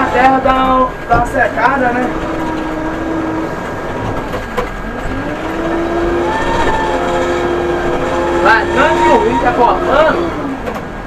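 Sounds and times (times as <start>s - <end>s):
backhoe diesel engine revving: 0.0s - 11.0s.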